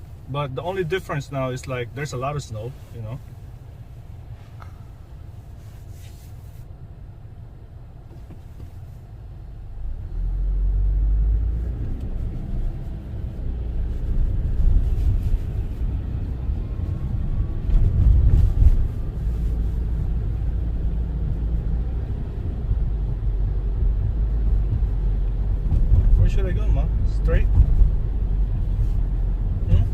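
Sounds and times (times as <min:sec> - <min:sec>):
car interior road rumble: 0:00.0 - 0:29.9.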